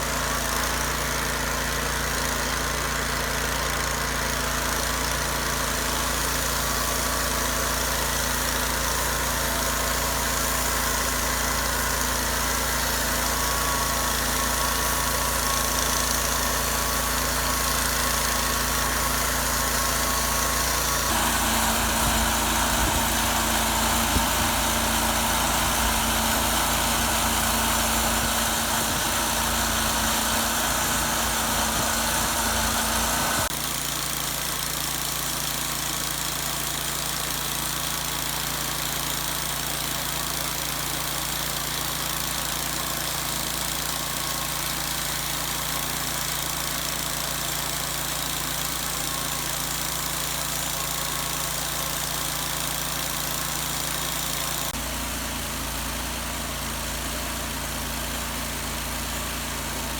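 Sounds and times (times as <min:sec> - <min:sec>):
engine running at low speed: 0:00.0 - 0:59.9.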